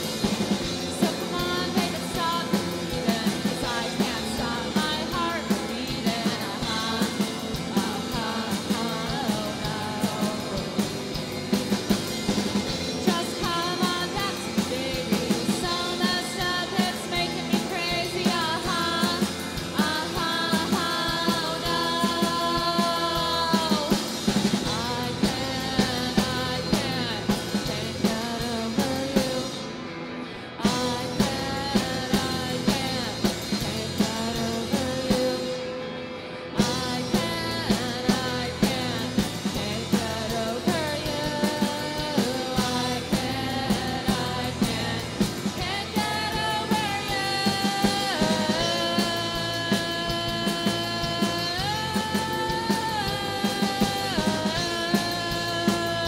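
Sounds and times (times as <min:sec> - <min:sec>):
rock song with vocals: 0:00.0 - 0:56.0.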